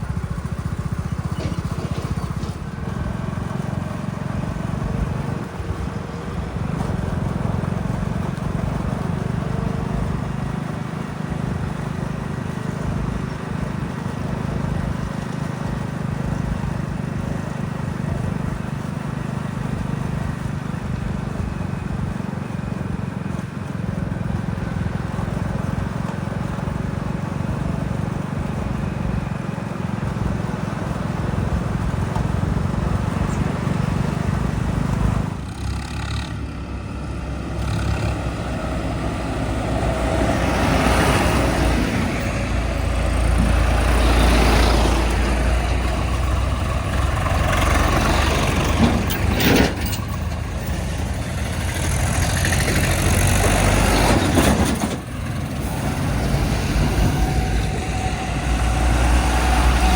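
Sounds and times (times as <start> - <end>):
heavy vehicle engine hum: 0.0 - 59.9.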